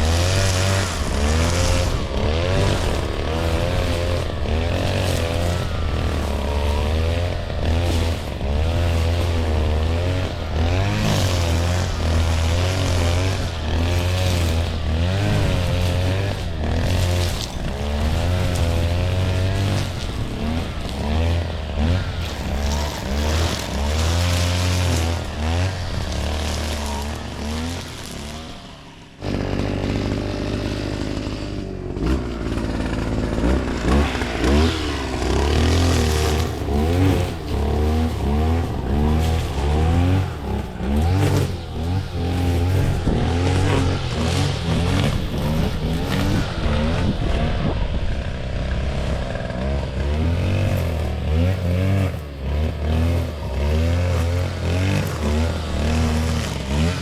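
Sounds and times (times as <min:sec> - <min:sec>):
small petrol engine revving: 0:00.0 - 0:57.0.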